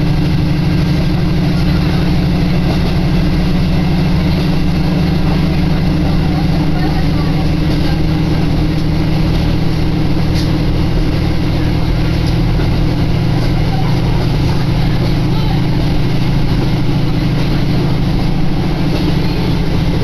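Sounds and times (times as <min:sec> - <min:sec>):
rail and wheel noise: 0:00.0 - 0:20.0
train engine drone: 0:00.0 - 0:20.0.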